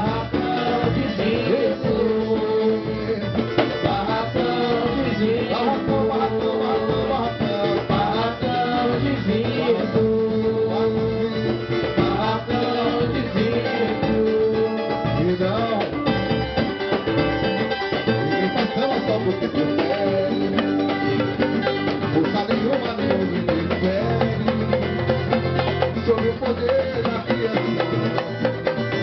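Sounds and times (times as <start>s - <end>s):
plucked strings: 0.0s - 29.0s
samba percussion: 0.0s - 29.0s.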